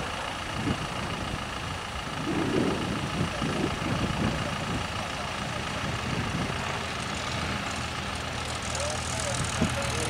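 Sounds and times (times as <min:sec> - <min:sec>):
propeller aircraft engine idling: 0:00.0 - 0:10.0.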